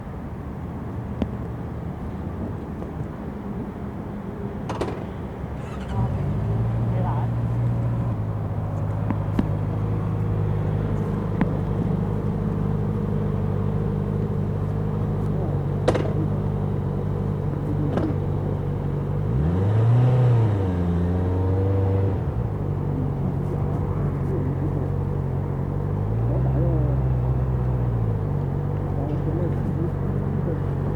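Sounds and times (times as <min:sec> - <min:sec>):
motorcycle engine idling and revving: 0:00.8 - 0:30.9.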